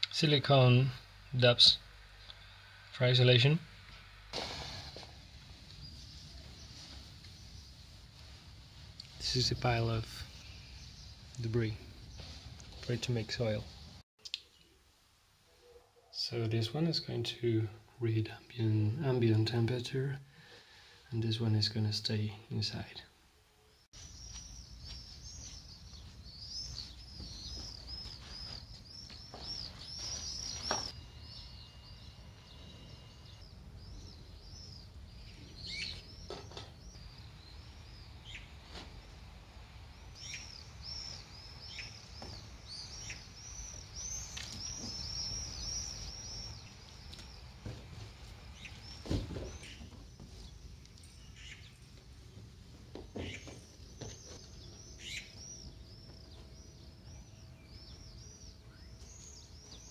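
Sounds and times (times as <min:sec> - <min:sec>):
small birds chirping: 0:00.0 - 0:14.8, 0:15.6 - 0:59.9.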